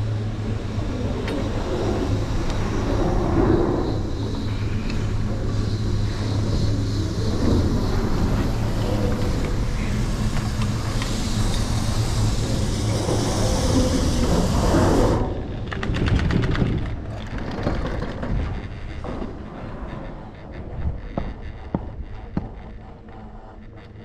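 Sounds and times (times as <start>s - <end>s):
chairlift machinery rumbling and whirring: 0.0s - 24.0s.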